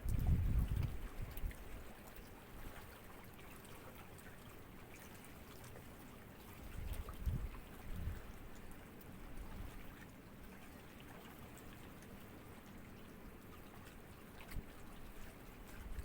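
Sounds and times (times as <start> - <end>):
water lapping at shore: 0.0 - 16.0.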